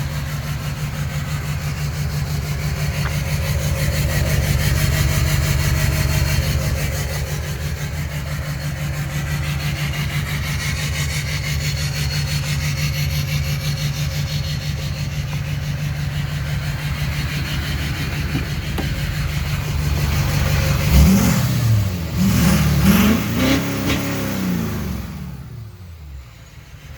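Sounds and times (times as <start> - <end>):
diesel engine idling and revving: 0.0 - 26.9.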